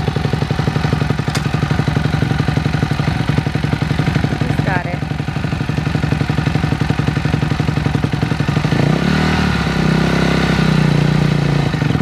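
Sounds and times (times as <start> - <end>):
dirt bike engine idling and revving: 0.0 - 12.0.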